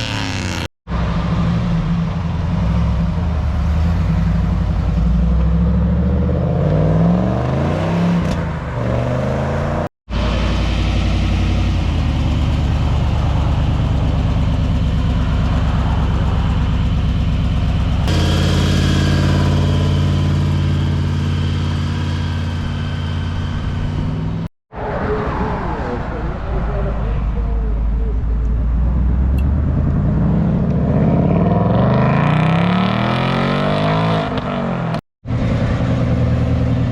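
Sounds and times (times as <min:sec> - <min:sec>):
car engine revving: 0:00.0 - 0:24.5, 0:28.7 - 0:35.0.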